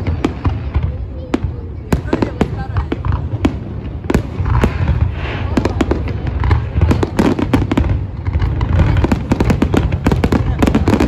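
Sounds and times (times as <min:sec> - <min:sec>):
fireworks bursting: 0:00.0 - 0:11.0
fireworks crackling: 0:00.0 - 0:11.0.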